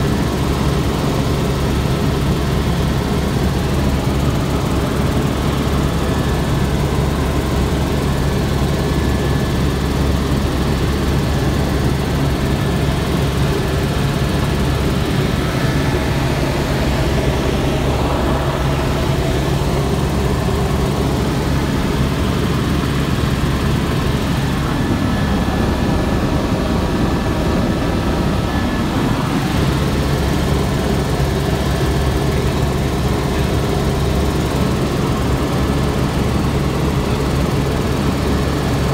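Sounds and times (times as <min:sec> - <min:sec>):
propeller plane cabin drone: 0:00.0 - 0:38.9.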